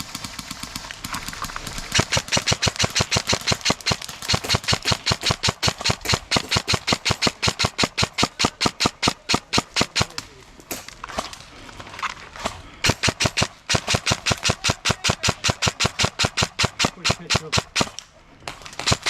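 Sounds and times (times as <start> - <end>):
airsoft gun firing shots: 0.0 - 11.3, 12.8 - 19.0.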